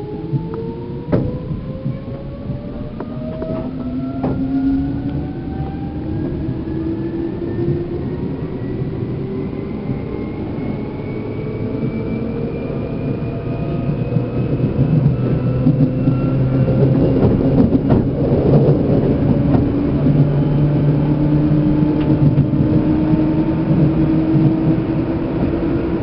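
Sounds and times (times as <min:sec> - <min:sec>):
train motors whining: 0:00.0 - 0:26.0
wheels rumbling on rail: 0:00.0 - 0:26.0.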